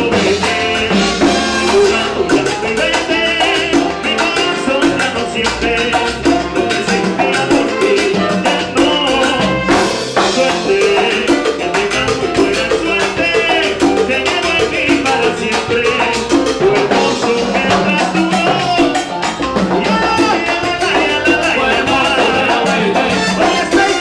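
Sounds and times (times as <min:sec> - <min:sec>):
band percussion drums and bass: 0:00.0 - 0:24.0
lead singer: 0:00.0 - 0:24.0.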